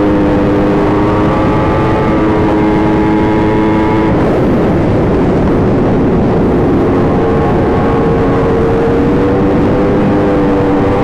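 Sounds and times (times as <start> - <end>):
loud rushing noise: 0.0 - 11.0
motorcycle engine running: 0.0 - 11.0.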